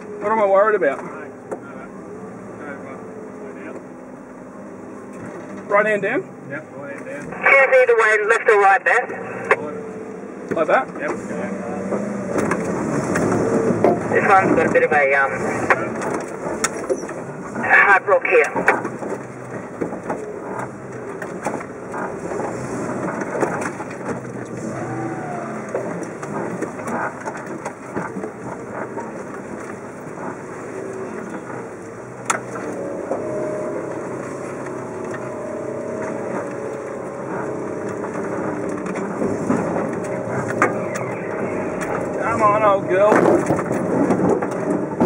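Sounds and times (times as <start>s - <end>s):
engine running at low revs: 0.0s - 45.0s.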